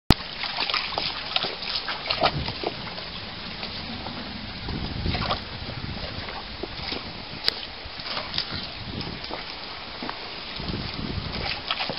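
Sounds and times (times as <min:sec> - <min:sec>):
dog splashing through stream: 0:00.1 - 0:11.9
running water: 0:00.1 - 0:11.9.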